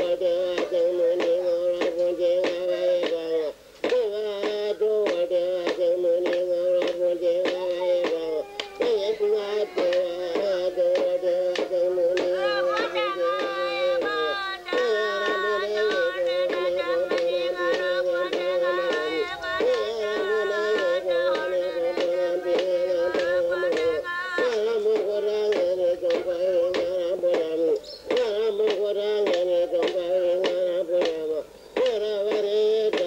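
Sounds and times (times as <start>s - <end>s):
quick percussive beat: 0.0s - 33.0s
wavering sung chant: 0.0s - 33.0s.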